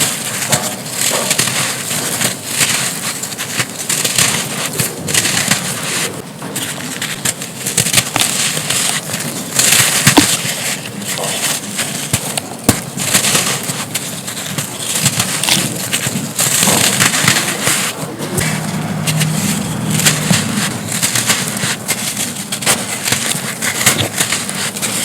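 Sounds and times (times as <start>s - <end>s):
pressed sand crumbling and crunching: 0.0s - 25.0s.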